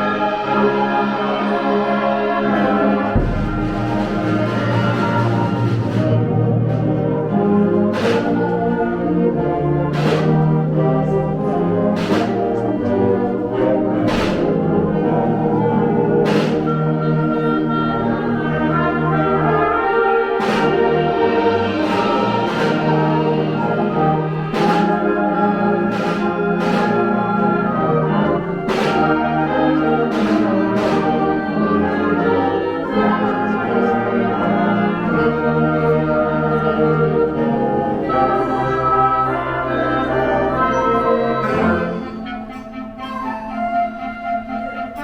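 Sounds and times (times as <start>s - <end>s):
percussion strikes: 0.0s - 43.3s
brass band music: 0.0s - 45.0s.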